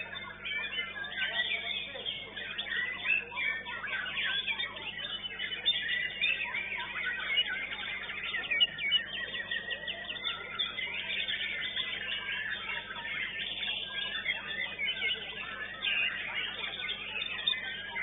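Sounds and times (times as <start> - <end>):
birds singing chirps and whistles: 0.0 - 18.0.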